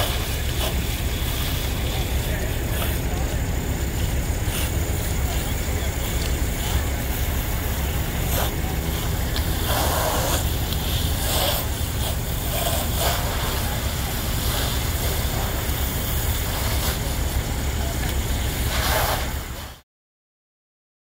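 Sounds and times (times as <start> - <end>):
diesel engine rumble: 0.0 - 19.8
faint distant voices: 0.0 - 19.8
wide hiss: 0.0 - 19.8.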